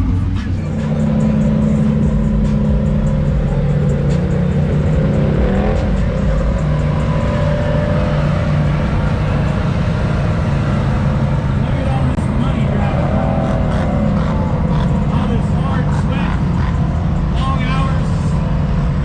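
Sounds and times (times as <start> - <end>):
atv engine running hard: 0.0 - 19.0.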